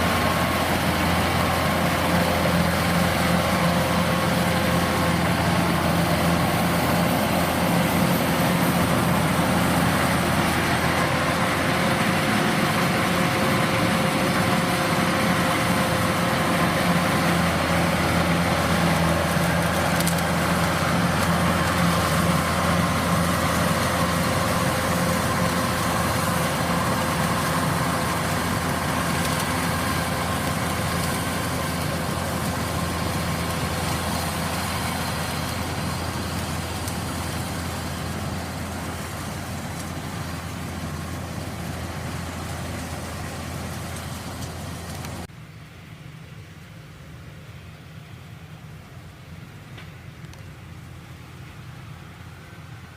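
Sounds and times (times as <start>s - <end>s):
combine harvester engine droning: 0.0s - 52.9s.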